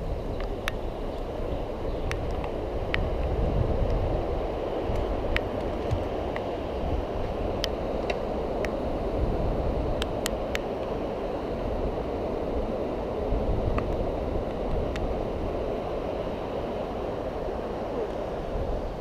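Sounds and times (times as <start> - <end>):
wind and road noise rumble: 0.0 - 19.0.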